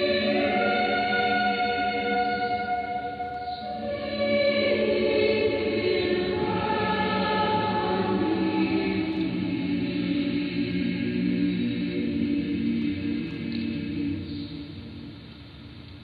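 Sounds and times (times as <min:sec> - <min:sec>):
church choir singing over radio: 0:00.0 - 0:15.1.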